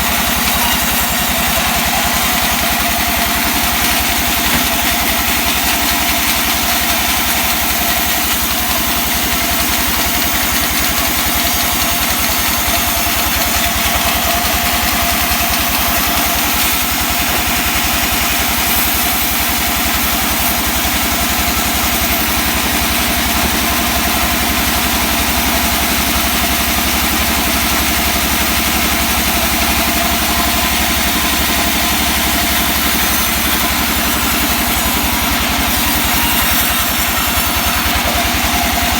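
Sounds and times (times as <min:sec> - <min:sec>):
sawing machine engine running: 0:00.0 - 0:38.9.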